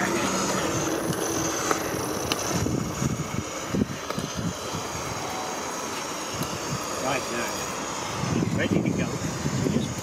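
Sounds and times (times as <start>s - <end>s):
model steam locomotive hissing: 0.0s - 10.0s.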